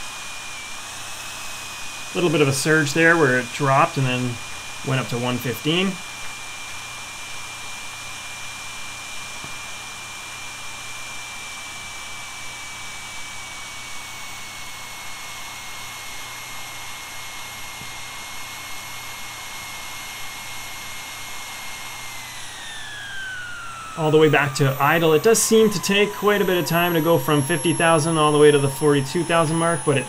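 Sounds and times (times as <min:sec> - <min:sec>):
model turbine engine whine: 0:00.0 - 0:30.0.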